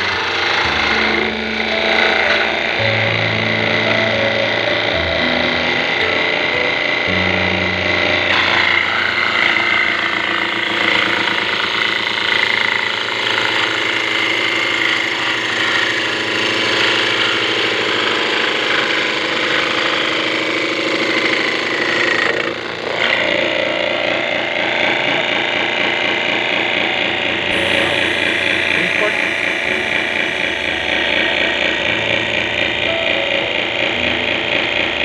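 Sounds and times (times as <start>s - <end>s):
table saw whining: 0.0s - 35.0s.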